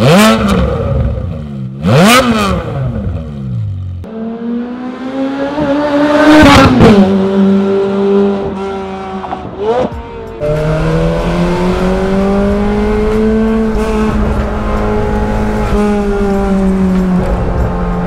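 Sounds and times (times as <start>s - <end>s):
car engine at part throttle: 0.0s - 18.0s
car engine revving: 0.0s - 18.0s.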